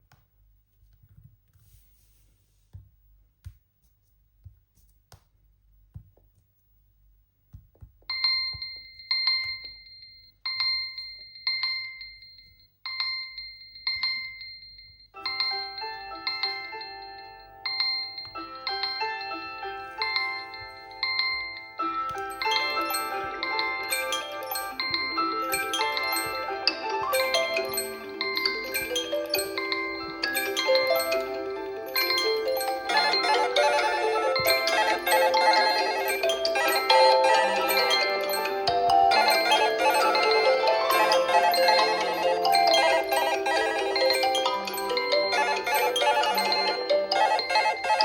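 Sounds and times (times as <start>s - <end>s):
bright chime-like tone: 8.1s - 48.0s
melodic mallet alarm tune: 8.1s - 48.0s.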